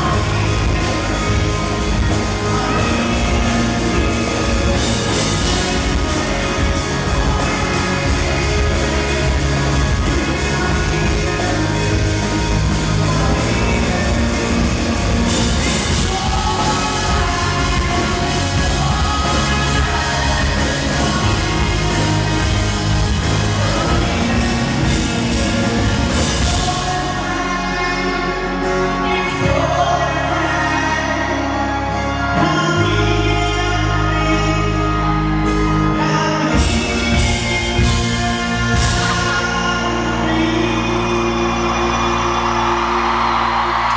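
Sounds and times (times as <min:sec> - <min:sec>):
live rock band playing: 0:00.0 - 0:43.9
person singing: 0:00.0 - 0:43.9.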